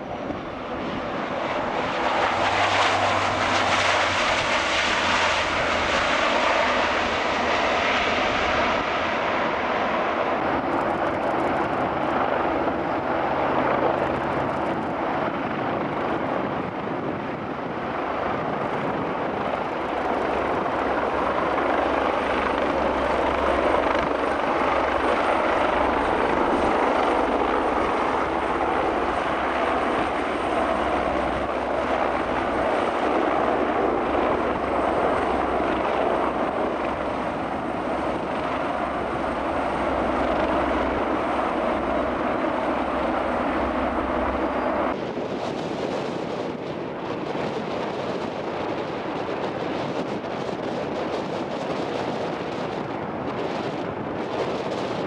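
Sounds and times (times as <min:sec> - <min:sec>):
helicopter hovering: 0:00.0 - 0:55.0.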